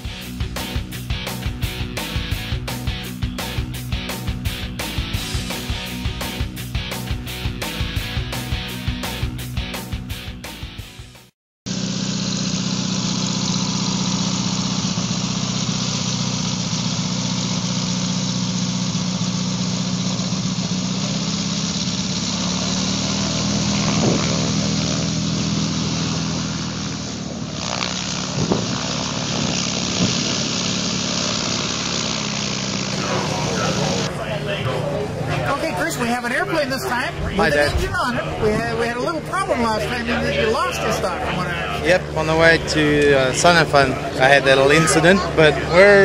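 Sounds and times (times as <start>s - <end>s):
aircraft engine running: 0.0s - 46.0s.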